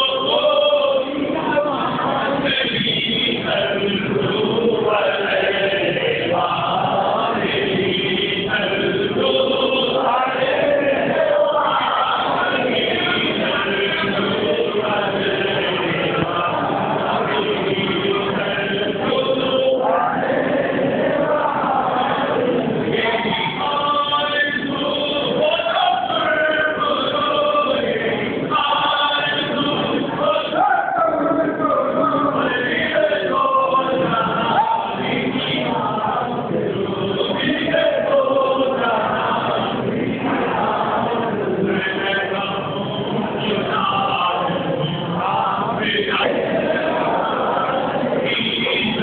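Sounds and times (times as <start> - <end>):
group of voices chanting: 0.0 - 49.0.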